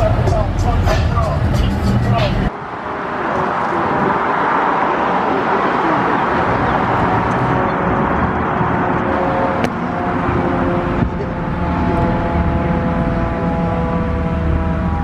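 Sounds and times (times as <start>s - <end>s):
car engines running: 0.0s - 15.0s
street traffic noise: 0.0s - 15.0s.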